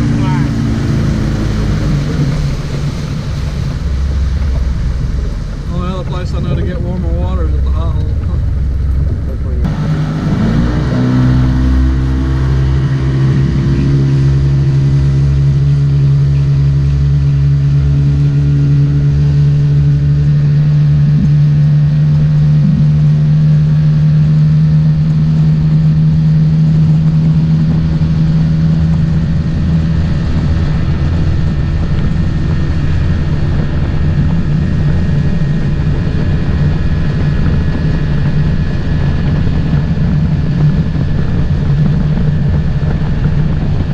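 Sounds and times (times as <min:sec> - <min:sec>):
continuous low rumble: 0:00.0 - 0:43.9
motorboat engine running: 0:00.0 - 0:43.9.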